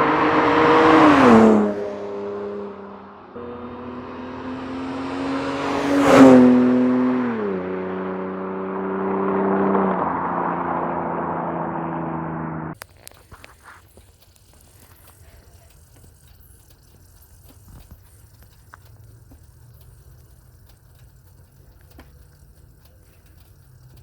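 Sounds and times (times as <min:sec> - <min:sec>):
car engine accelerating: 0:00.0 - 0:12.8, 0:13.9 - 0:24.0.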